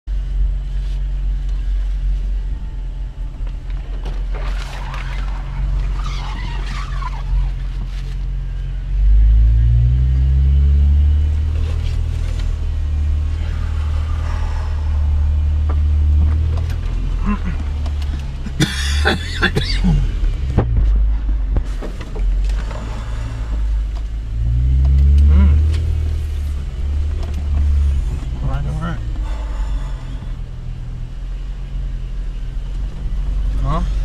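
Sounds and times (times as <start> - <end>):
car engine droning low: 0.1 - 34.0.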